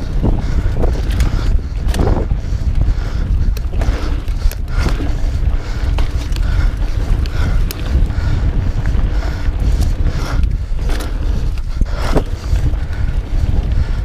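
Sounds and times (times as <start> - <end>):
bike clicks and rattles: 0.0 - 14.0
bike tyres rolling over dirt: 0.0 - 14.0
wind rumbling on microphone: 0.0 - 14.0.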